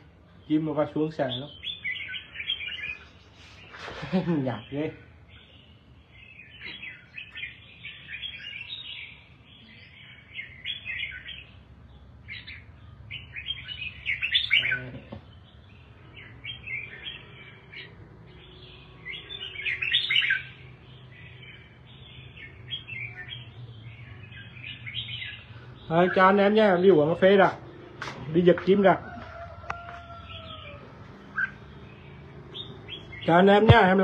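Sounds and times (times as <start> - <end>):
bird singing chattering phrases: 0.0 - 34.0.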